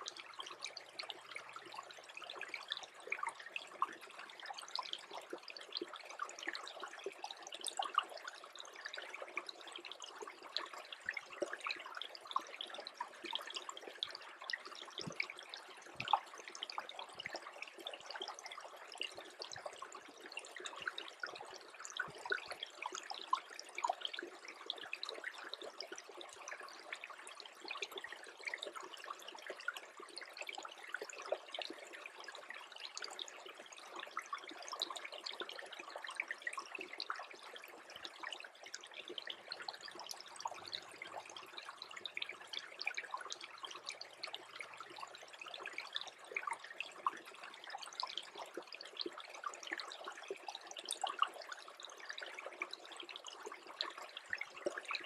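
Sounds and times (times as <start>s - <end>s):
brook trickling: 0.0s - 55.0s.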